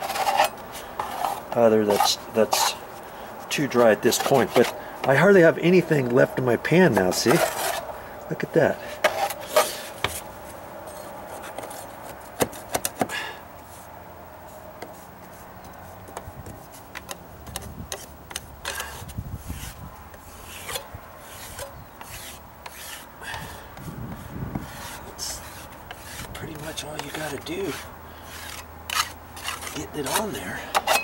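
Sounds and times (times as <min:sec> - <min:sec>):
putty knife scraping: 0:00.0 - 0:06.3, 0:06.9 - 0:07.9, 0:08.9 - 0:10.2, 0:14.8 - 0:31.0.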